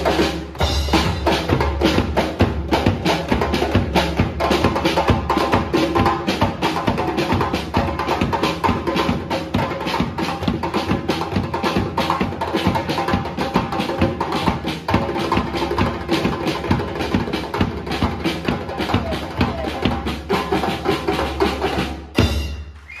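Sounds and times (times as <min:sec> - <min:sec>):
percussion ensemble playing: 0:00.0 - 0:23.0.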